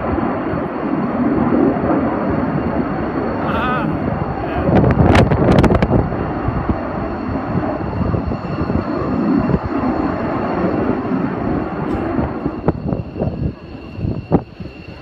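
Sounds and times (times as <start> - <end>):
jet fighter flying past: 0.0 - 15.0.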